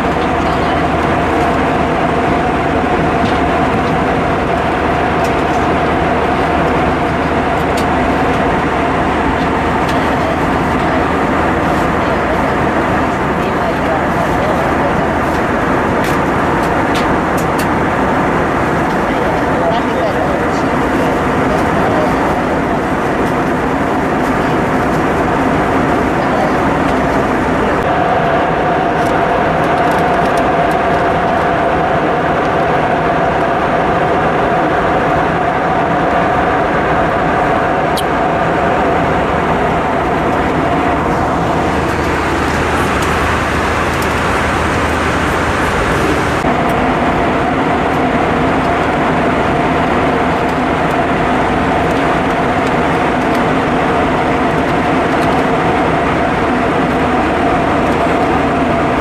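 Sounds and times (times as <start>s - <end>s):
airflow and engine rush: 0.0s - 59.0s
steady cabin hum: 0.0s - 59.0s.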